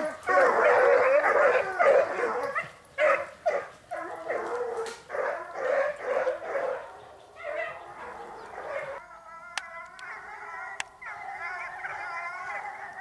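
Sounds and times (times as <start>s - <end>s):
hounds baying and yelping: 0.0s - 13.0s.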